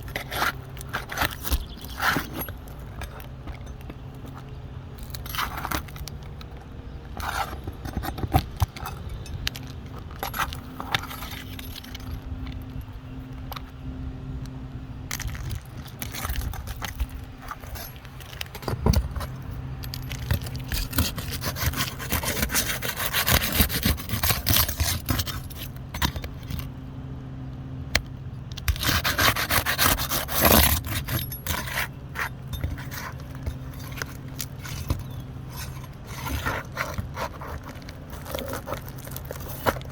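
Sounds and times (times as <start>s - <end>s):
objects scraping and rattling: 0.0s - 13.8s, 15.1s - 26.8s, 28.6s - 39.9s
steady low hum: 0.0s - 39.9s.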